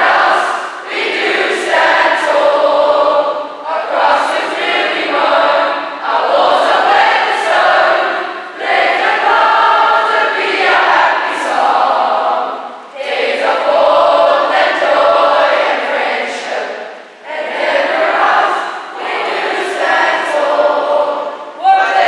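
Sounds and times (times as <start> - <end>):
group of students singing: 0.0 - 22.0.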